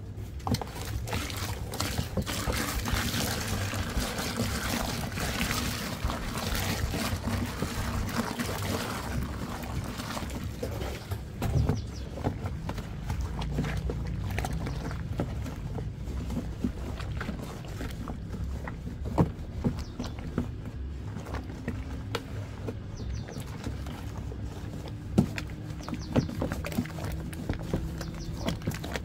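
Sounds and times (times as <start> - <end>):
liquid sloshing in a basin: 0.0 - 29.0.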